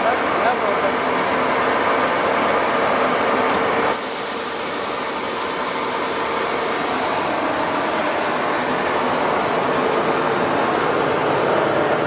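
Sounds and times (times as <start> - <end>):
diesel locomotives idling: 0.0 - 12.0.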